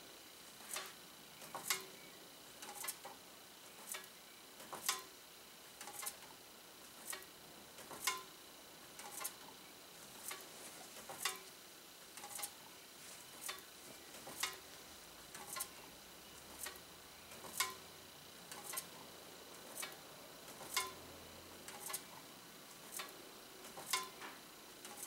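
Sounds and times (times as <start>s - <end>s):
fan blades ticking against foil tag: 0.6s - 25.0s.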